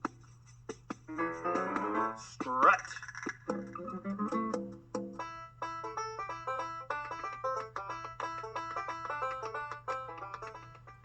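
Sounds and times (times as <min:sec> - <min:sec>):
plucked string instrument music: 0:01.1 - 0:02.6, 0:03.5 - 0:11.0.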